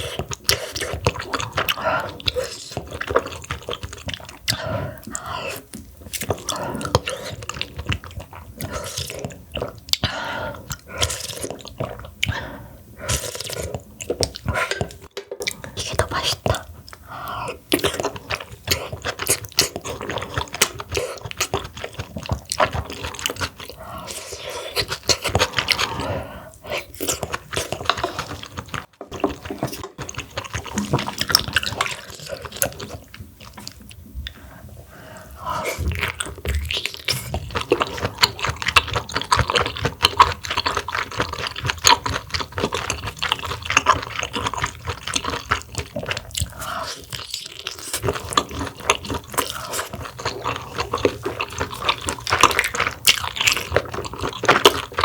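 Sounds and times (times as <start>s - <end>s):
wet chewing and smacking: 0.0s - 55.0s.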